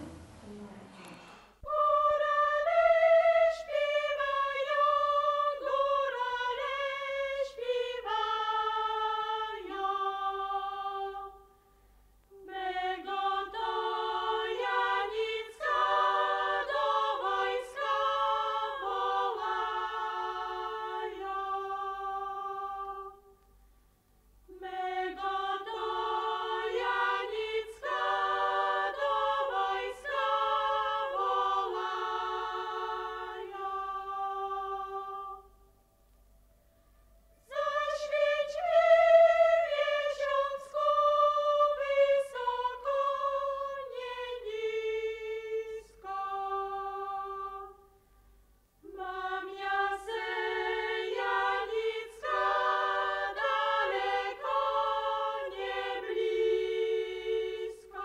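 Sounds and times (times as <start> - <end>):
choir singing unaccompanied: 1.4 - 11.6, 12.3 - 23.5, 24.5 - 35.7, 37.2 - 48.0, 48.8 - 58.0.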